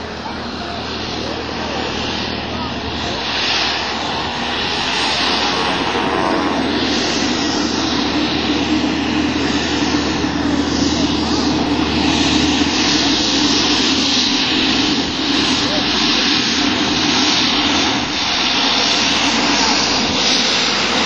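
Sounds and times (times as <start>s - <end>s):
turboprop aircraft taxiing: 0.0s - 21.0s.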